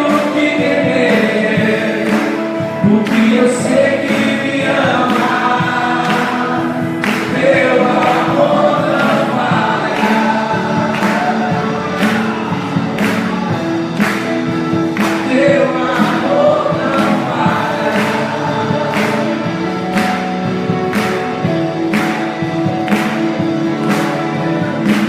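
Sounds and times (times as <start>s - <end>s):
worship band with group singing: 0.0s - 25.0s.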